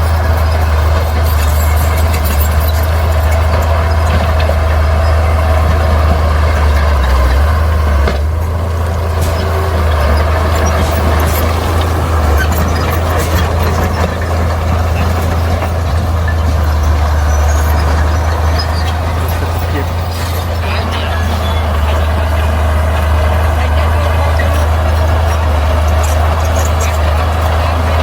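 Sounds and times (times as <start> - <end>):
heavy diesel machinery rumbling: 0.0 - 28.0.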